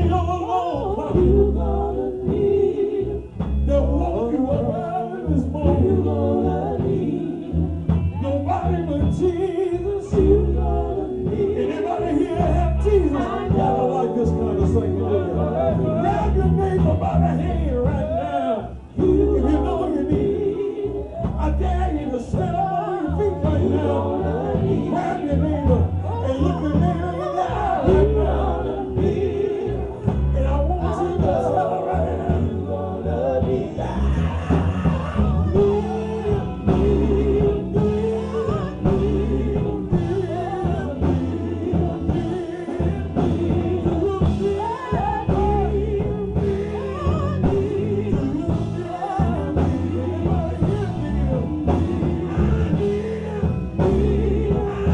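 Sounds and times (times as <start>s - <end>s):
bass line: 0.0s - 54.9s
gospel singing: 0.0s - 54.9s.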